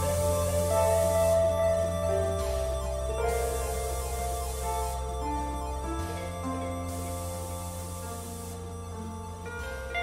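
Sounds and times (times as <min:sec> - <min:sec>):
keyboard held notes: 0:00.0 - 0:10.0.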